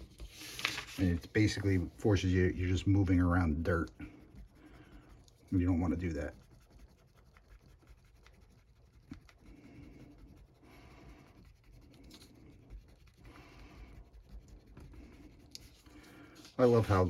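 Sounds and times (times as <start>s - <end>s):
eraser rubbing on paper: 0.0s - 17.0s.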